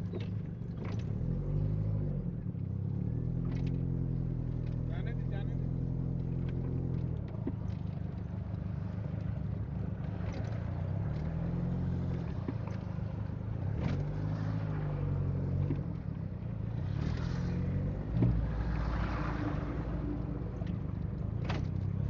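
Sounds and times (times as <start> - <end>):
car engine running inside cabin: 0.0 - 22.0.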